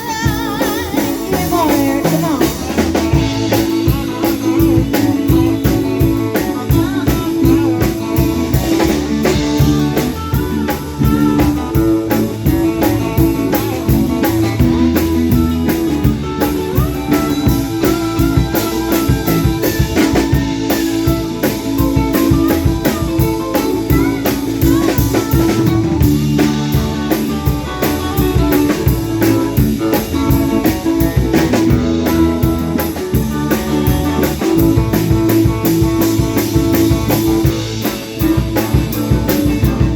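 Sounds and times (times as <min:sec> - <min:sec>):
drum kit beat: 0:00.0 - 0:39.9
electric guitar lead: 0:00.0 - 0:39.9.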